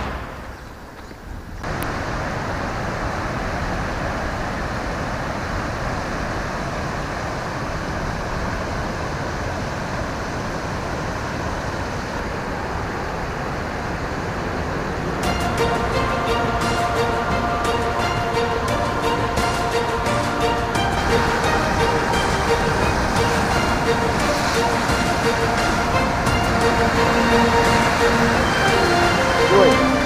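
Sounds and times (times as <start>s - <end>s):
floodwater rushing through dam gates: 0.0s - 30.0s.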